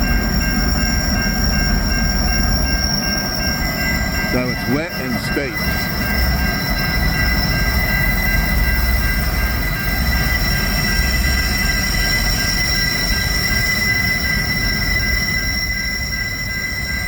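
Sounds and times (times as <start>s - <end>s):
freight train rumbling: 0.0s - 17.0s
train wheel squeal: 0.0s - 17.0s.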